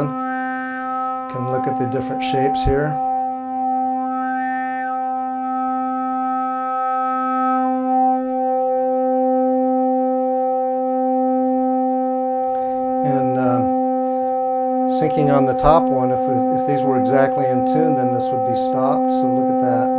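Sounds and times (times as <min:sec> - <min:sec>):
synthesizer drone: 0:00.0 - 0:19.9.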